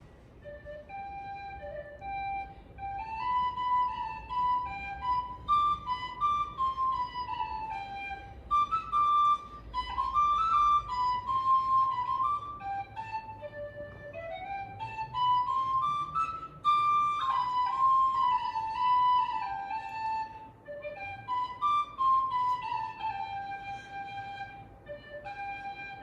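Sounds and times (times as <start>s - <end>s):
flute-like folk melody: 0.3s - 26.0s.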